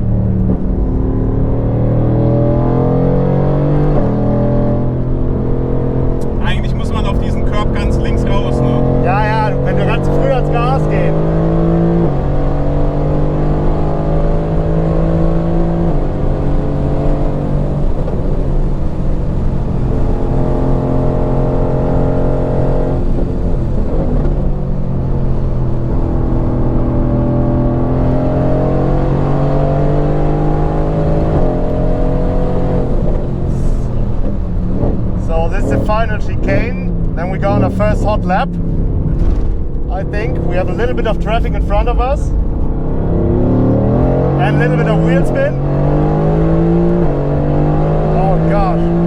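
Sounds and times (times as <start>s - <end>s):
car engine at track pace: 0.0s - 49.0s.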